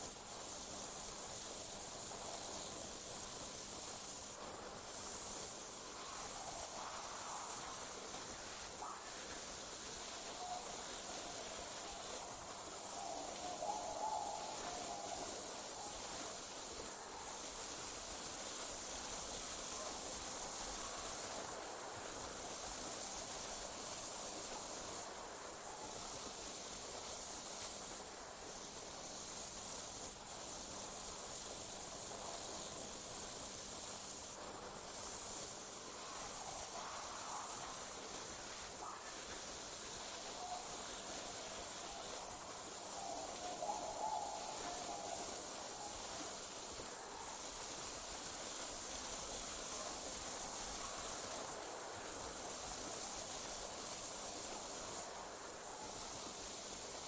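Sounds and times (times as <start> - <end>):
insects trilling: 0.0 - 25.1, 25.8 - 57.0.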